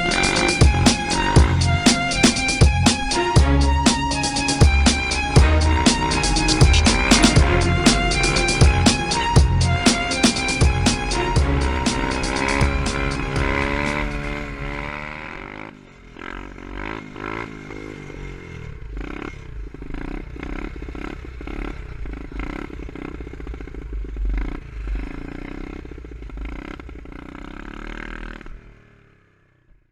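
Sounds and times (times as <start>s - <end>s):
motorbike engine revving: 0.0s - 28.8s.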